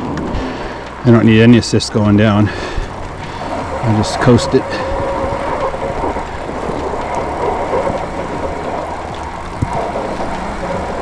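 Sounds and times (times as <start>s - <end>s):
tyres rolling through snow: 0.0s - 11.0s.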